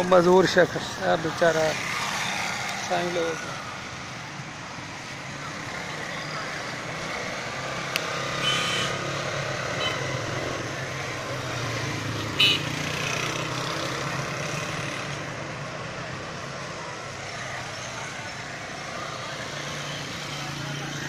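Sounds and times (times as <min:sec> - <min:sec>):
vehicle engines passing: 0:00.0 - 0:21.0.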